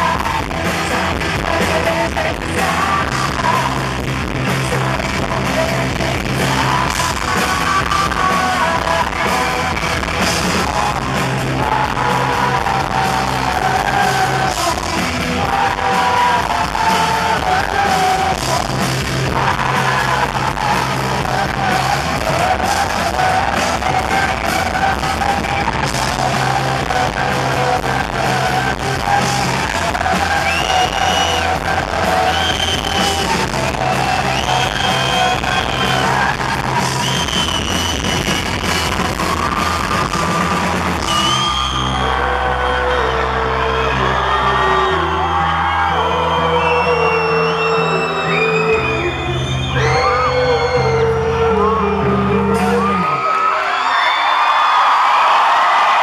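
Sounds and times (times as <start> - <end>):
live rock band playing: 0.0 - 45.9, 47.2 - 53.3
woman singing lead: 0.0 - 53.2.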